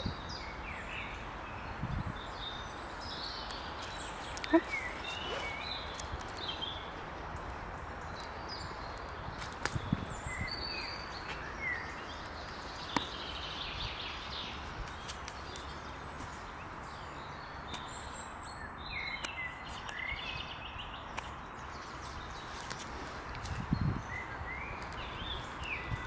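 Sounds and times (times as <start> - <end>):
outdoor ambience hiss: 0.0 - 26.0
songbirds chirping and trilling: 0.0 - 26.0.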